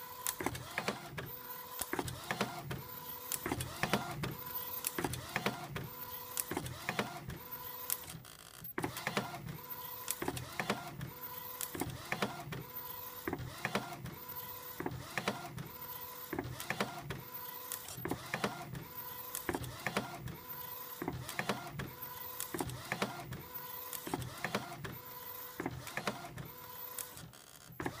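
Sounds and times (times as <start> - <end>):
printer carriage sweeping: 0.2 - 8.2, 8.8 - 28.0
printer click: 0.2 - 8.2, 8.8 - 11.0, 11.6 - 12.7, 13.3 - 14.1, 14.7 - 25.0, 25.6 - 28.0.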